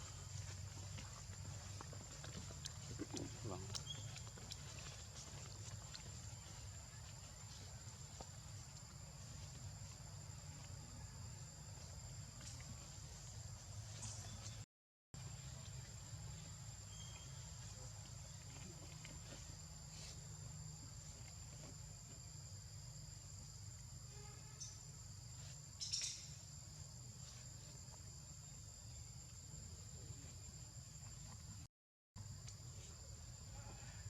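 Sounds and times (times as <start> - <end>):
insects trilling: 0.0 - 14.6, 15.2 - 34.0.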